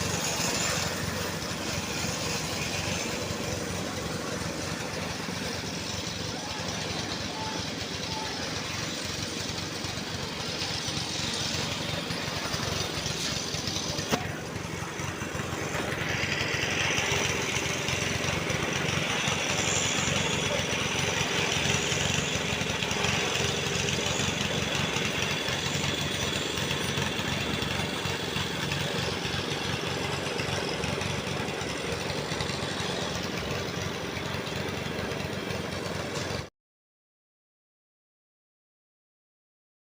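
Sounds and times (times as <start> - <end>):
construction machinery engine: 0.0 - 36.5.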